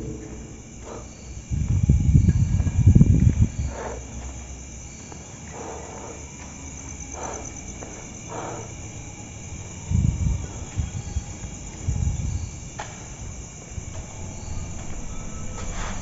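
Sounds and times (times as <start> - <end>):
low rumbling thumps: 0.0 - 5.0, 6.2 - 16.0
crickets chirring: 0.0 - 16.0.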